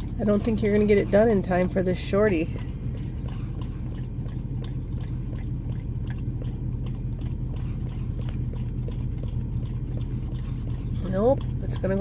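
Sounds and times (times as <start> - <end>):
dog licking wetly: 0.0 - 12.0
steady low hum: 0.0 - 12.0.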